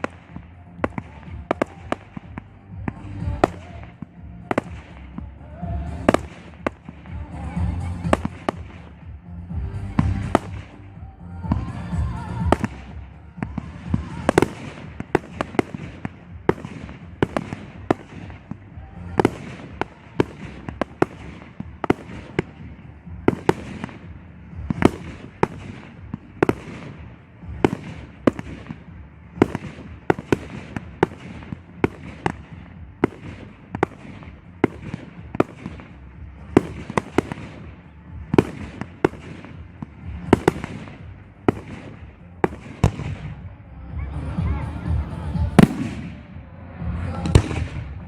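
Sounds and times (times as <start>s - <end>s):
fireworks bangs: 0.0s - 48.0s
low rumble: 0.0s - 48.0s.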